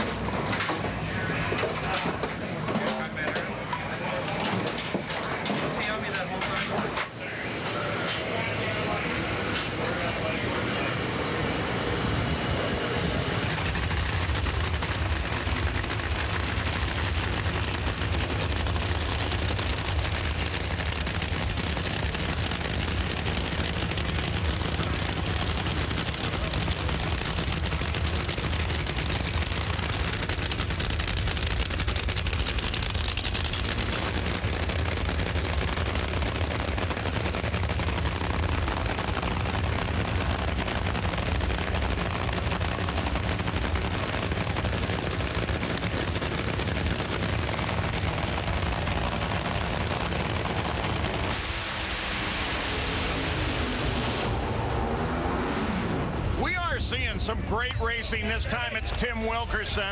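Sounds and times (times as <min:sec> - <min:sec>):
race car engine crackling: 0:00.0 - 0:10.9, 0:13.1 - 0:59.9.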